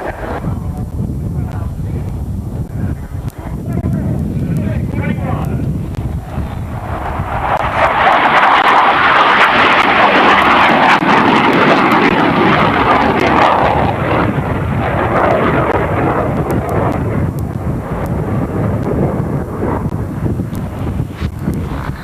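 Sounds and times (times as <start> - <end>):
jet fighter passing by: 0.0 - 22.0.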